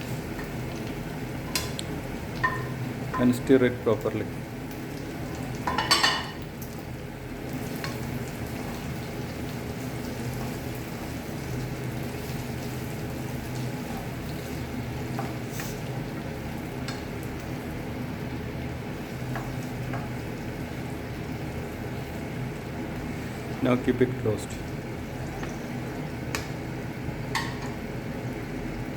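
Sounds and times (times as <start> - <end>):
tomatoes sizzling in oil: 0.0 - 28.9.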